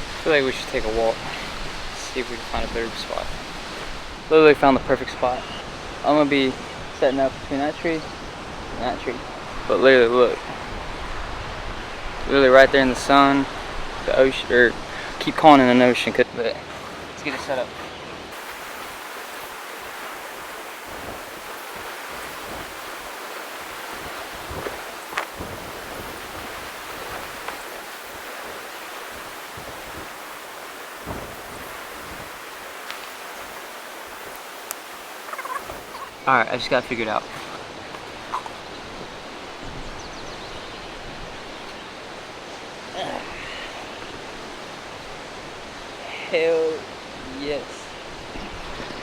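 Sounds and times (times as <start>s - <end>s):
lakeside water: 0.0s - 49.0s
wind: 0.0s - 49.0s.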